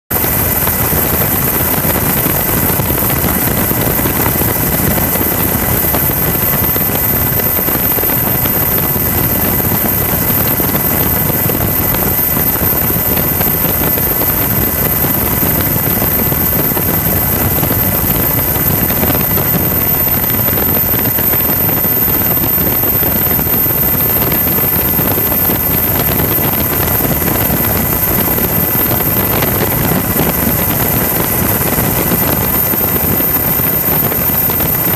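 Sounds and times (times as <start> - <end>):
helicopter rotor and engine noise: 0.1 - 34.9
thin steady whine: 0.1 - 34.9.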